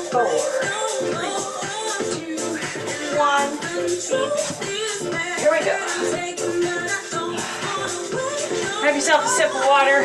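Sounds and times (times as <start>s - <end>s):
pop song with singing: 0.0s - 10.0s.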